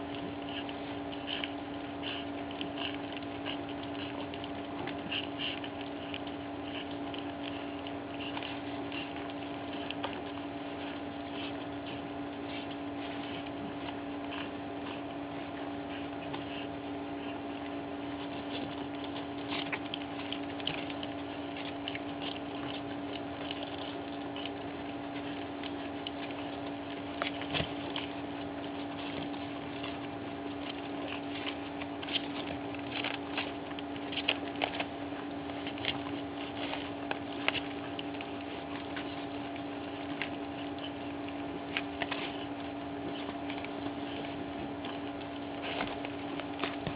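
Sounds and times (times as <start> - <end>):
puppies lapping food: 0.0 - 46.9
steady low hum: 0.0 - 46.9.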